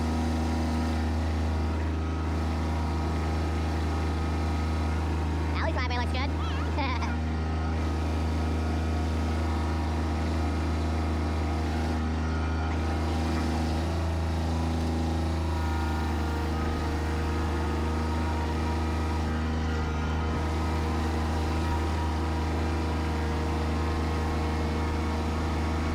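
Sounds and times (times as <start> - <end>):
tractor engine droning: 0.0 - 25.9.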